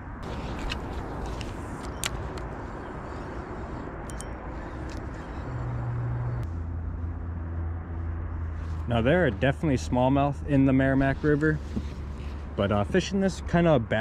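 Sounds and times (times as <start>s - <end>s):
low hum: 0.0s - 12.6s
low outdoor rumble: 0.0s - 14.0s.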